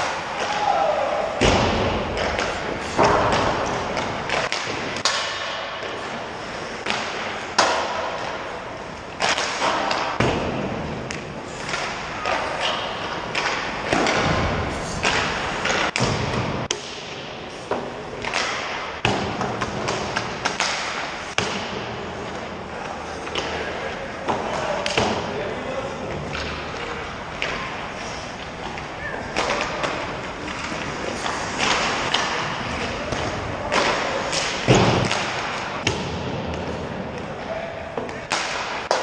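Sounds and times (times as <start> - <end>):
hockey pucks cracking off sticks: 1.4 - 8.5, 9.1 - 25.3, 26.2 - 37.4, 38.0 - 39.0.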